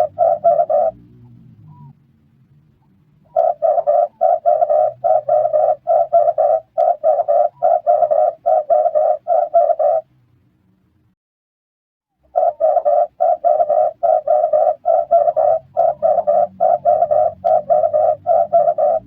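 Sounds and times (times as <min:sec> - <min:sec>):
dove cooing: 0:00.0 - 0:02.0, 0:03.2 - 0:10.1, 0:12.3 - 0:19.0.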